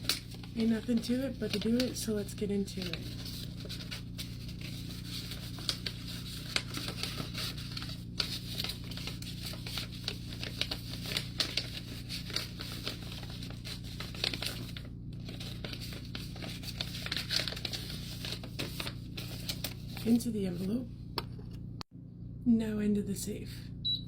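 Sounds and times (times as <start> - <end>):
paper bills rustling: 0.0 - 20.8
steady low hum: 0.0 - 24.0.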